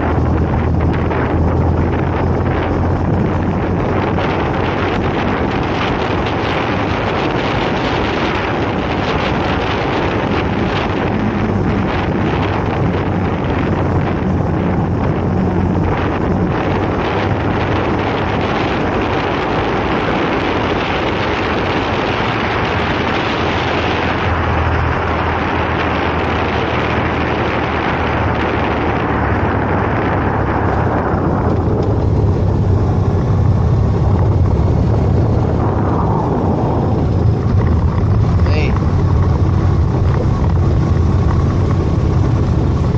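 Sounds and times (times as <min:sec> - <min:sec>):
motorcycle engine drone: 0:00.0 - 0:42.9
wind buffeting microphone: 0:00.0 - 0:42.9.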